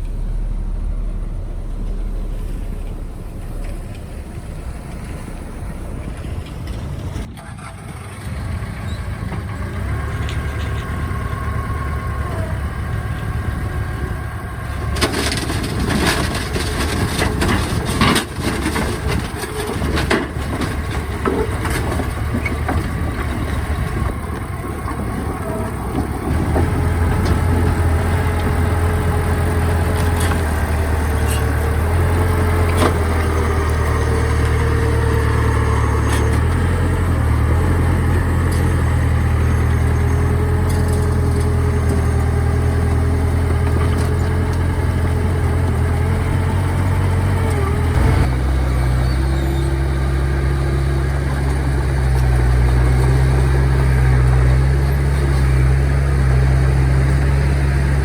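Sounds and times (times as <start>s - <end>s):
diesel engine drone: 0.0s - 58.0s
machinery clattering and rumbling: 0.0s - 58.0s.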